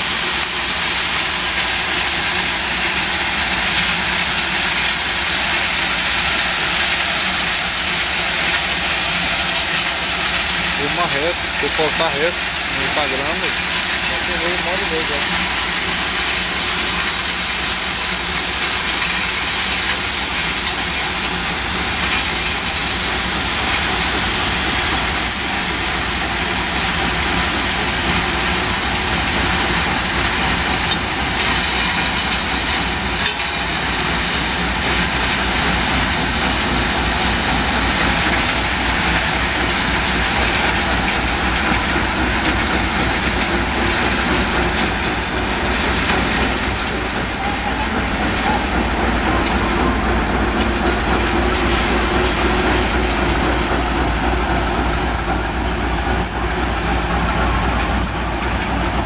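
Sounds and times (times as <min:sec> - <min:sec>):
heavy train rumble: 0:00.0 - 0:59.0
rail clatter: 0:00.0 - 0:59.0.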